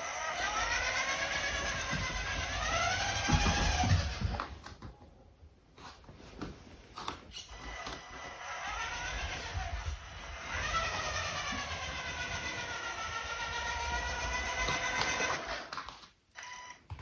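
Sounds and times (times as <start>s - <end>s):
toy car electric motor whining: 0.0s - 4.4s, 7.3s - 17.0s.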